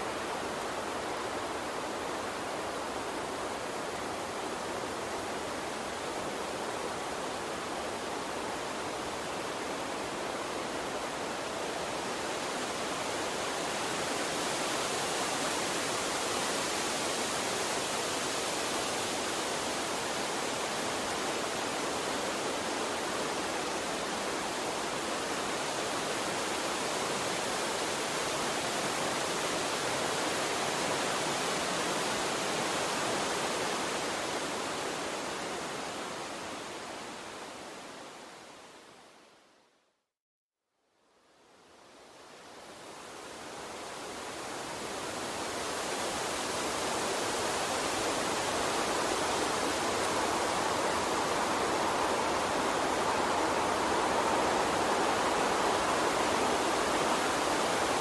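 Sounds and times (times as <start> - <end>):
water stream rushing: 0.0 - 38.8, 42.2 - 58.0.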